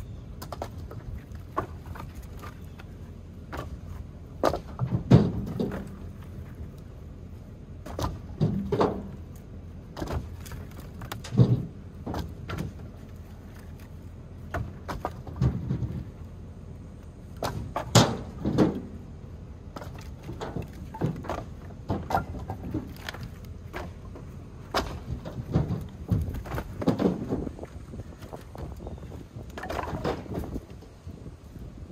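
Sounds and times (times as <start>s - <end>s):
firewood knocking and clattering: 0.4s - 6.9s, 7.8s - 16.2s, 17.4s - 19.0s, 19.7s - 30.9s.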